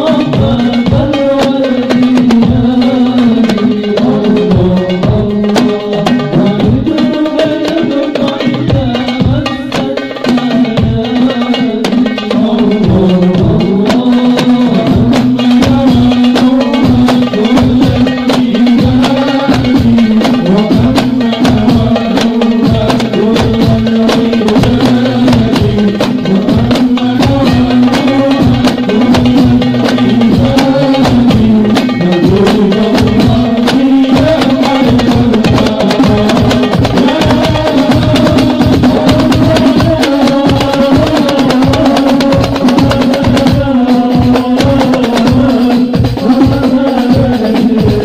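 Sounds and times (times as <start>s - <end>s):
bass drum: 0.0s - 48.0s
hand drums playing fast rhythm: 0.0s - 48.0s.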